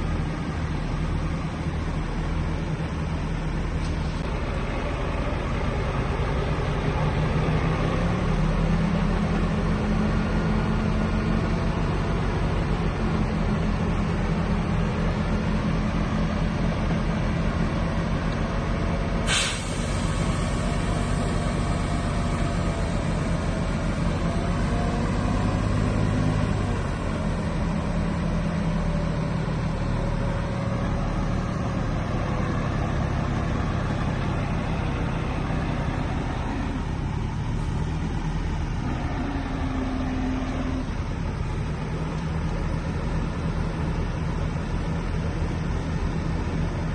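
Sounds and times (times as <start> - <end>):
heavy diesel machinery running: 0.0 - 46.9.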